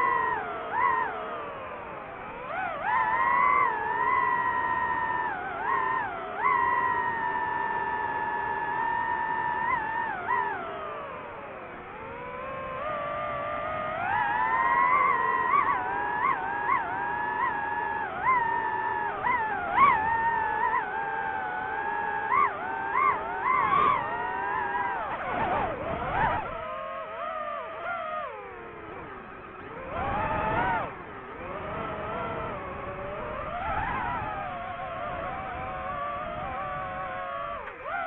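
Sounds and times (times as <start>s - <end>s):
drone propellers whining: 0.0s - 38.0s.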